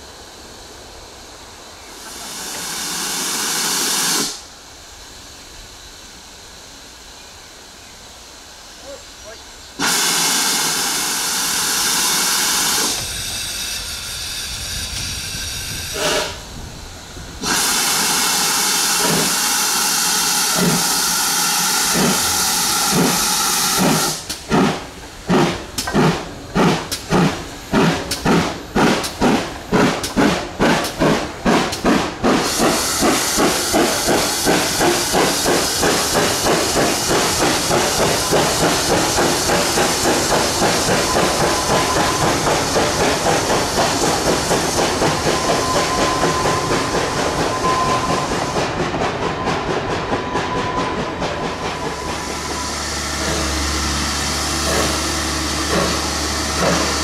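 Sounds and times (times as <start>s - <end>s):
steam hissing: 0.0s - 57.0s
steam locomotive exhaust beats: 0.0s - 57.0s.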